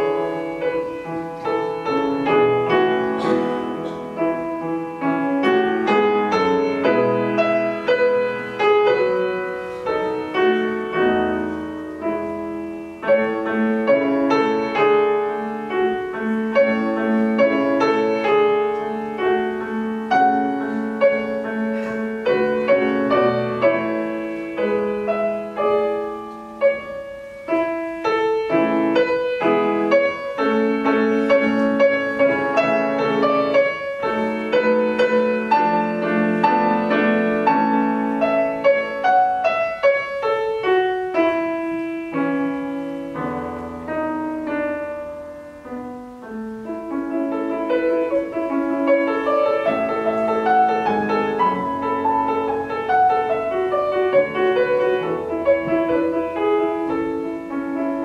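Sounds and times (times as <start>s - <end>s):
solo piano classical piece: 0.0s - 58.0s.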